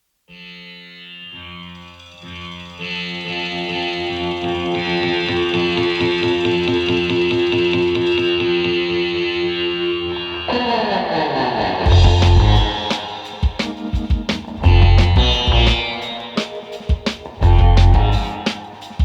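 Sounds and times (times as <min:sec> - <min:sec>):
electric guitar music with effects: 0:00.3 - 0:19.0.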